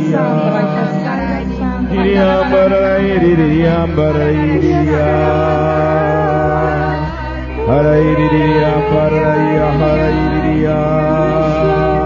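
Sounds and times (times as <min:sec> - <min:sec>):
person chanting: 0:00.0 - 0:12.0
sustained musical drone: 0:00.0 - 0:12.0.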